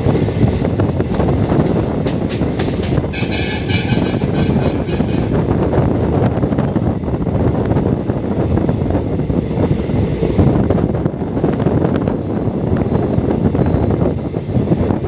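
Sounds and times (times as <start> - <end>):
train coach rumbling: 0.0 - 15.0
wind rushing over microphone: 0.0 - 15.0.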